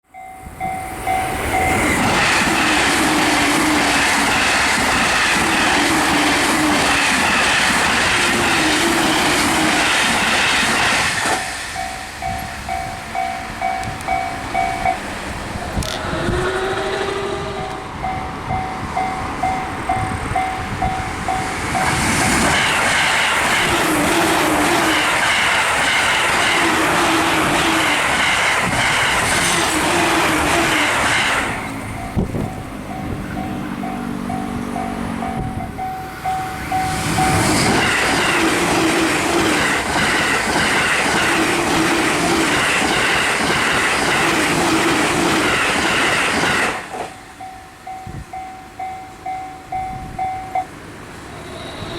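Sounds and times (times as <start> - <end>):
train rushing past: 0.1 - 51.9.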